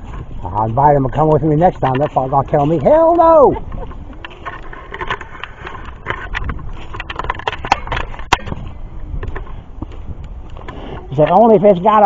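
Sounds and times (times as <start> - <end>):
footsteps crunching on trail: 0.0 - 12.0.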